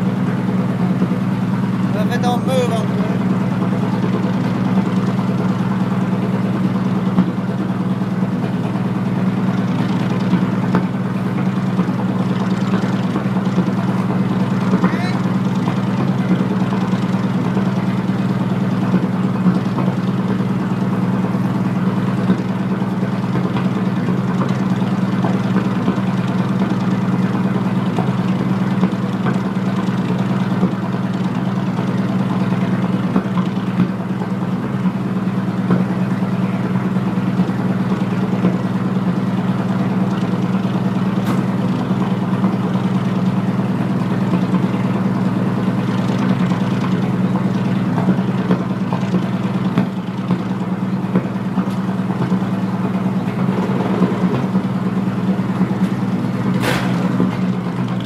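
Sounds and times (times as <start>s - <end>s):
heavy engine idling: 0.0s - 58.0s.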